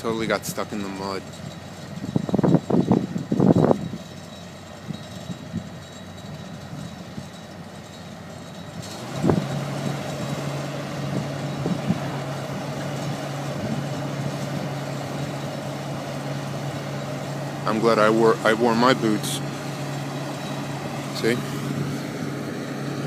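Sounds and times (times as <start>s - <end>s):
heavy machine engine droning: 0.0s - 23.0s.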